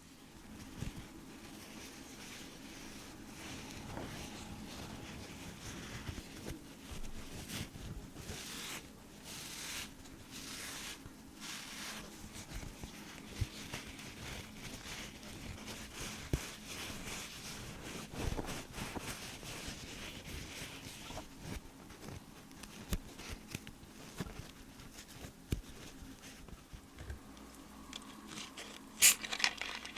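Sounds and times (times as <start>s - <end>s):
soft rustling and scratching: 0.0s - 29.9s.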